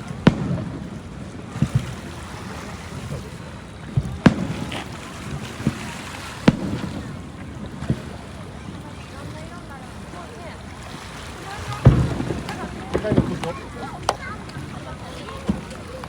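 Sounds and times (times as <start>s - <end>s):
sea waves washing: 0.0s - 16.0s
wind on microphone: 0.0s - 16.0s.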